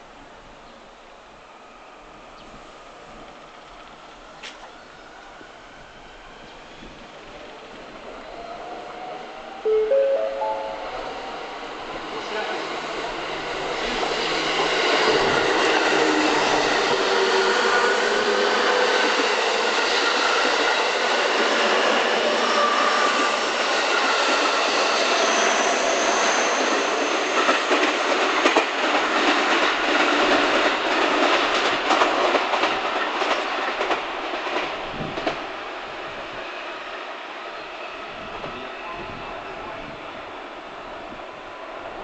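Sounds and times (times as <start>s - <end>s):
electric train rumbling: 0.4s - 42.0s.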